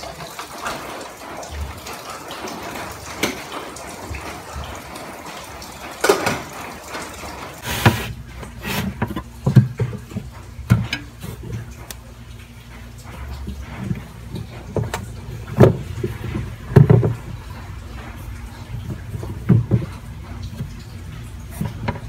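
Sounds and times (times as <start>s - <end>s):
water at kitchen sink: 0.0s - 22.0s.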